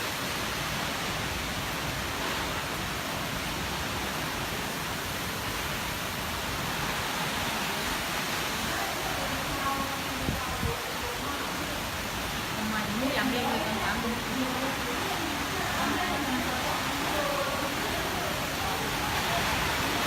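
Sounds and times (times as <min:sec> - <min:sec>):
rain: 0:00.0 - 0:20.0
wind: 0:00.0 - 0:20.0.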